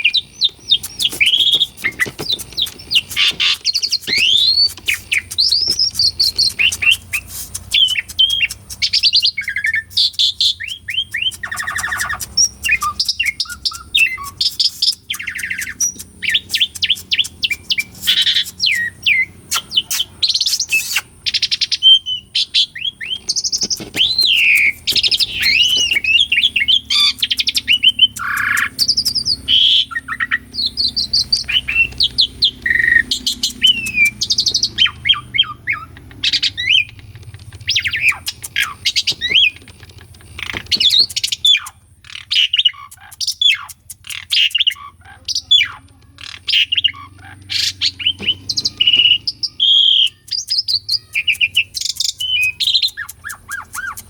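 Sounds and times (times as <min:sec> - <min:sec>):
starling singing varied song: 0:00.0 - 0:54.0.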